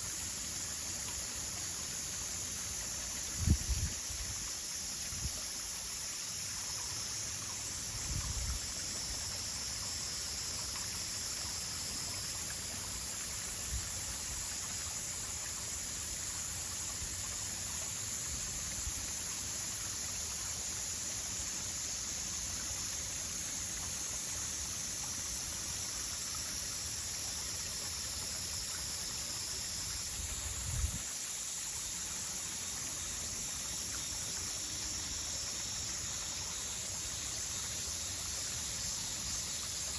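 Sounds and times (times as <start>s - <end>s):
flowing stream: 0.0s - 39.9s
high-pitched hiss: 0.0s - 39.9s.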